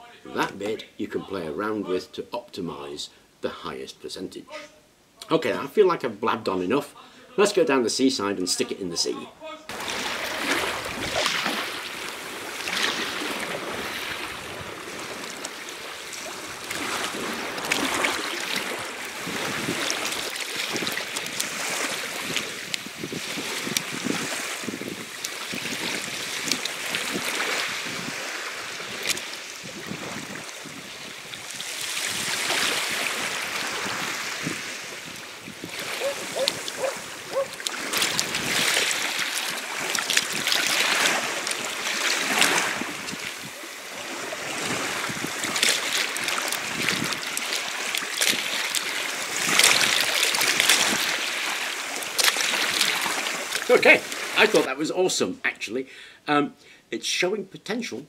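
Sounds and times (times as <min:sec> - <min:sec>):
waves lapping on shingle: 0:08.6 - 0:55.4.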